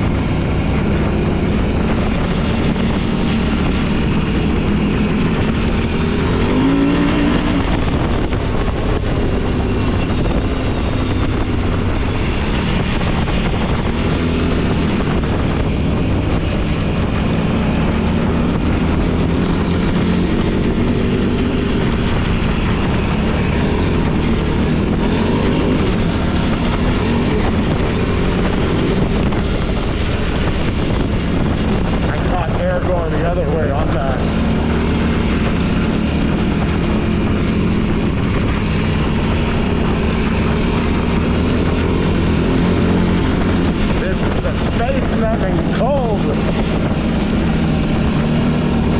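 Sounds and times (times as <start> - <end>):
off-road engine revving: 0.0 - 48.9
wind noise: 0.0 - 48.9.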